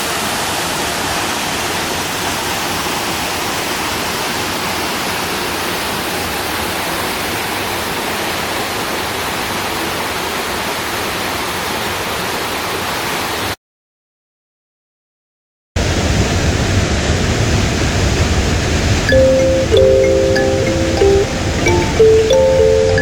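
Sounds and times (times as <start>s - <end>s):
waterfall rushing: 0.0s - 13.6s, 15.8s - 23.0s.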